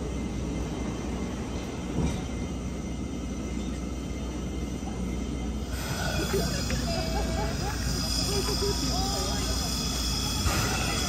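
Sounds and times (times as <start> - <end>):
train carriages rumbling: 0.0 - 11.0.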